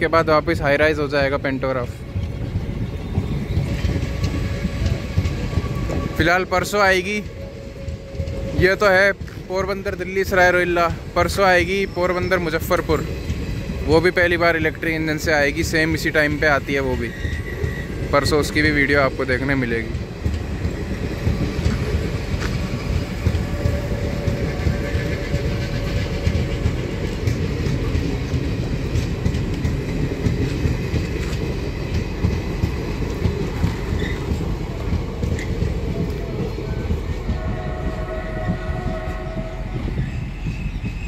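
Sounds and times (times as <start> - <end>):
train wheels clattering over rails: 0.0 - 41.0.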